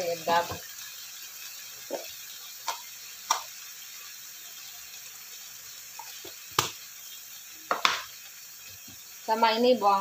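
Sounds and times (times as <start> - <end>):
food frying in a wok: 0.0 - 10.0.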